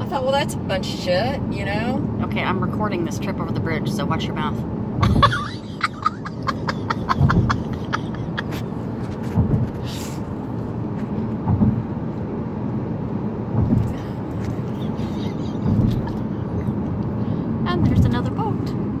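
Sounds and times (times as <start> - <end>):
car road rumble: 0.0 - 19.0.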